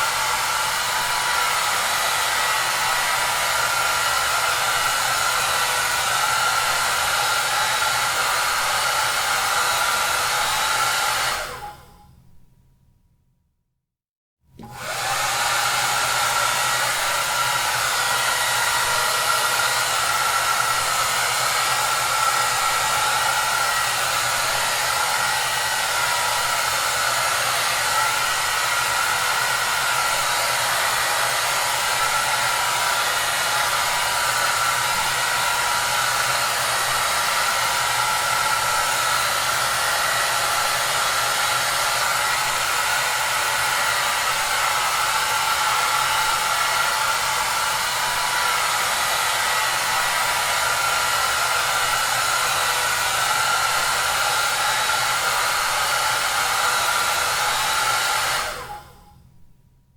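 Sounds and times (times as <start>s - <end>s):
hair dryer running: 0.0s - 12.0s, 14.6s - 59.1s.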